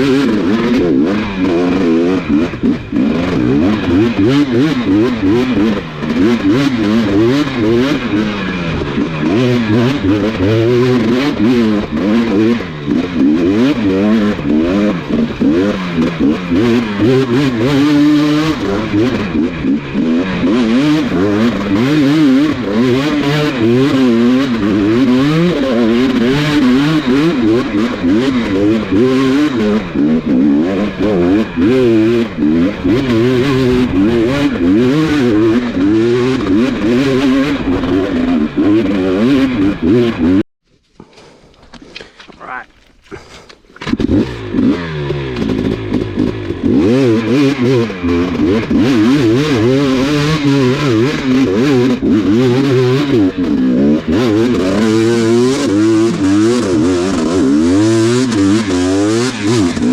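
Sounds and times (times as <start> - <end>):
dirt bike engine revving: 0.0 - 40.4, 42.4 - 59.9.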